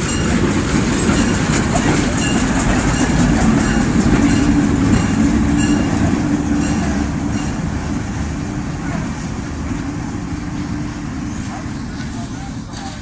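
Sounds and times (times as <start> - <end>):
diesel locomotive engine humming: 0.0 - 13.0
rumble of moving locomotive: 0.0 - 13.0.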